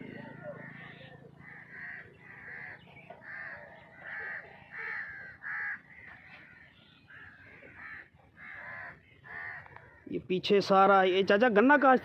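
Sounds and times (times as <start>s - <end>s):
crows cawing: 0.0s - 10.3s.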